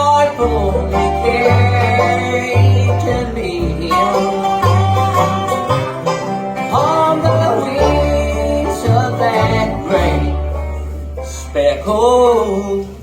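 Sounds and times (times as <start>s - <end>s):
banjo picking: 0.0s - 13.0s
bluegrass band playing: 0.0s - 13.0s.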